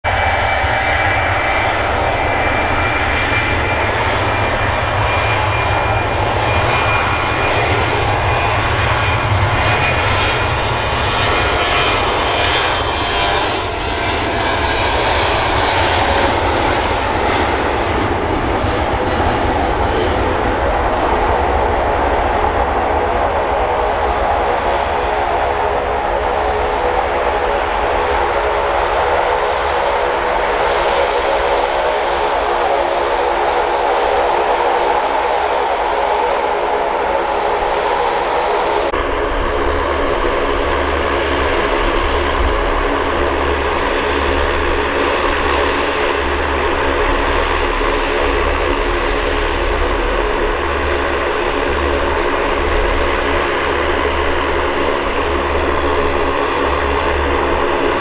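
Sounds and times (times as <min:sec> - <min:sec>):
jet engines whining on takeoff: 0:00.0 - 0:58.0.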